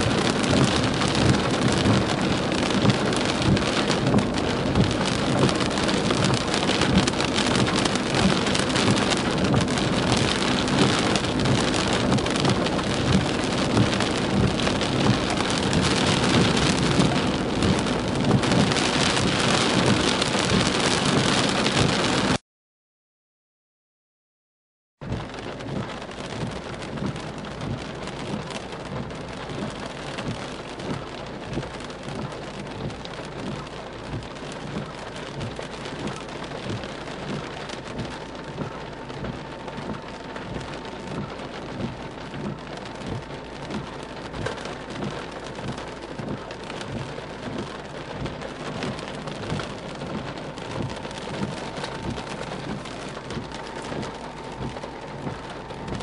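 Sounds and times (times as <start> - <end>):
heavy rain on a car: 0.0 - 22.4, 25.0 - 56.0.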